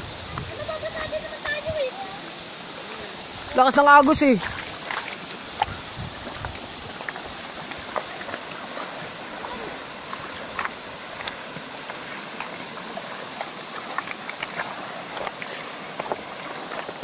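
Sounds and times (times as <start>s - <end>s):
feet wading through water: 0.0s - 17.0s
river rushing over stones: 0.0s - 17.0s.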